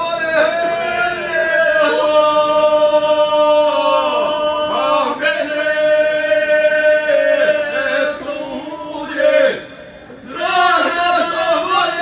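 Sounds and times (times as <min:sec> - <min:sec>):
group singing without instruments: 0:00.4 - 0:09.6, 0:10.2 - 0:12.0.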